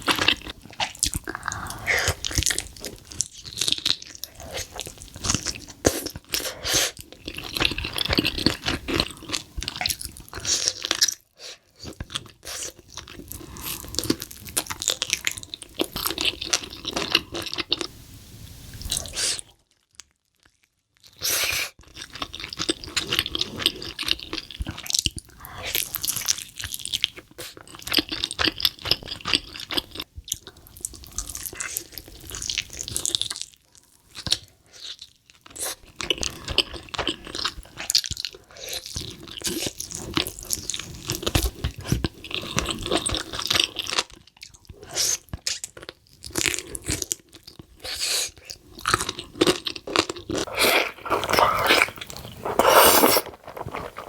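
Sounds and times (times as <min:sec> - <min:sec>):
person chewing crunchy food: 0:00.0 - 0:17.9, 0:21.8 - 0:54.0.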